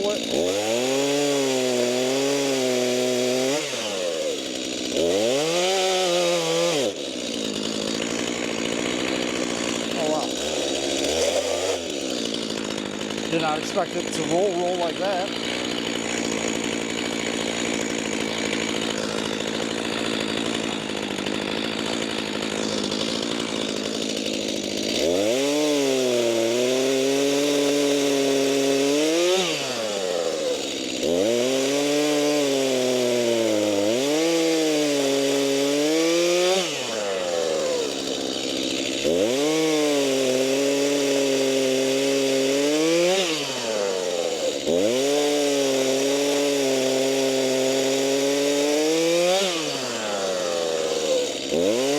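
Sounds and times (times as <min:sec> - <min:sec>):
chainsaw cutting logs: 0:00.0 - 0:51.9.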